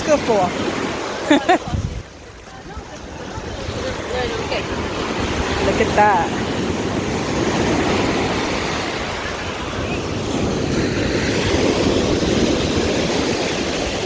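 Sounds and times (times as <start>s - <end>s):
ocean surf breaking: 0.0s - 14.0s
wind rumbling on microphone: 0.0s - 14.0s.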